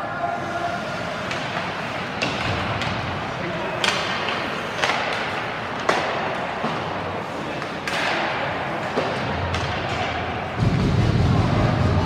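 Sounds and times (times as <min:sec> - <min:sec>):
hockey sticks and puck clacking: 0:00.4 - 0:11.6.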